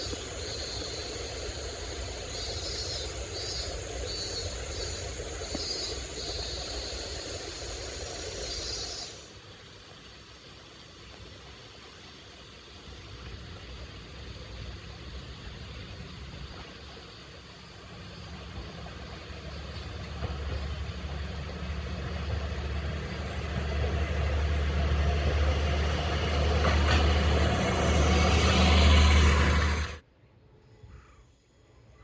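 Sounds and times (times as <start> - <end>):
diesel railcar engine drone: 0.0 - 31.5.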